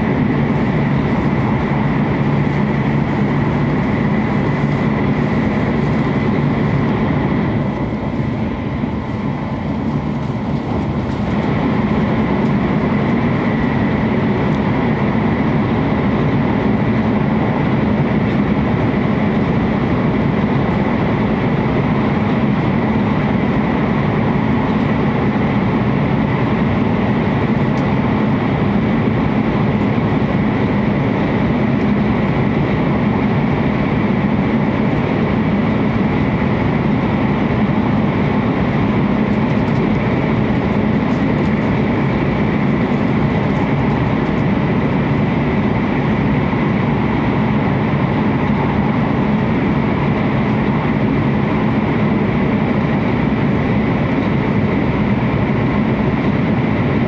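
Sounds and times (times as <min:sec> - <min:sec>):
train rumble and rush: 0:00.0 - 0:57.0.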